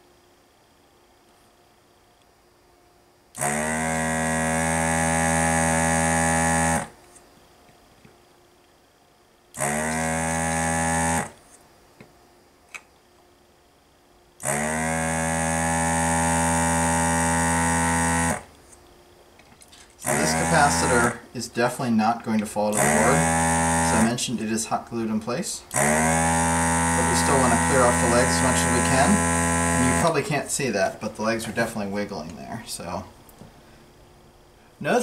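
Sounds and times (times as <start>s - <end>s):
desoldering vacuum pump humming: 0.0s - 35.0s.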